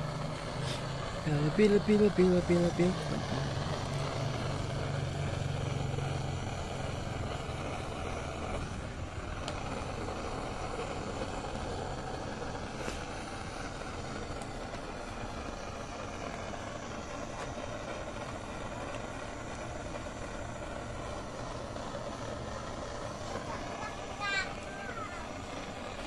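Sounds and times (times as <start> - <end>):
low hum: 0.0 - 26.0
torch flame rushing hiss: 0.0 - 26.0.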